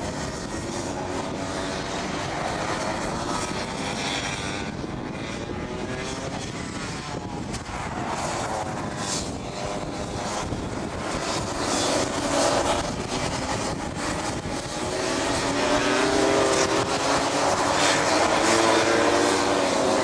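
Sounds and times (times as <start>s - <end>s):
kart engines racing: 0.0s - 20.0s
wind rumble on microphone: 0.0s - 20.0s.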